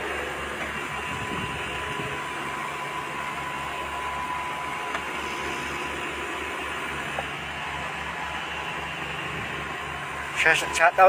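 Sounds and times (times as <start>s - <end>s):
thin steady whine: 0.0s - 11.0s.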